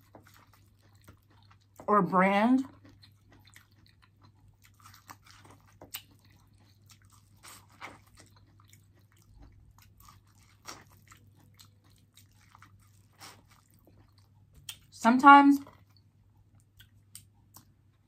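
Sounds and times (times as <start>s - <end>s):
chewing corn on the cob: 0.0s - 15.0s, 15.6s - 18.0s.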